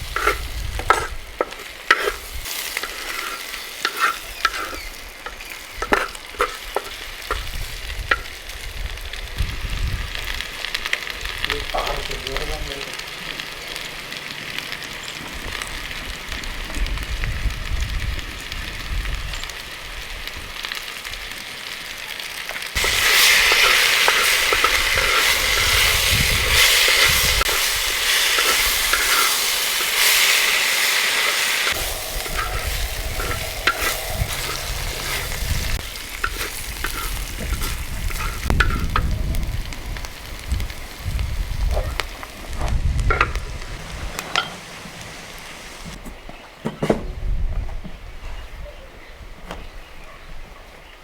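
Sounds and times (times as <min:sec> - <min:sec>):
food sizzling in hot oil: 0:00.0 - 0:46.0.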